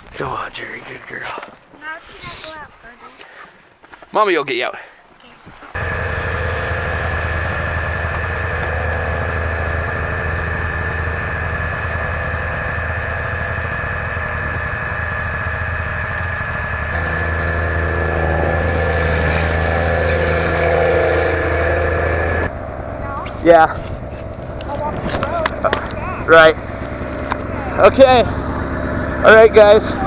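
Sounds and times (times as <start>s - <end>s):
snowmobile engine idling: 5.7s - 30.0s.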